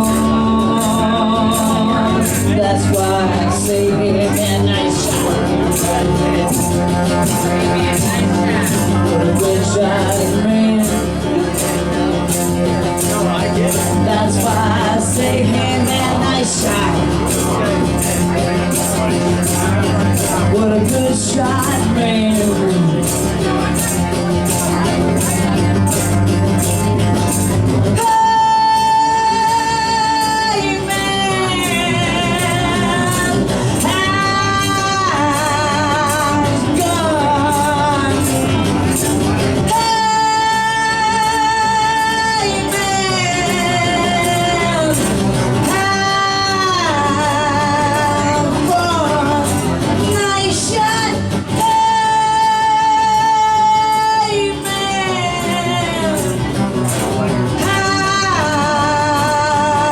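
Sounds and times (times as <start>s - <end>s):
lead guitar held notes with vibrato: 0.0s - 59.9s
live rock band playing: 0.0s - 59.9s.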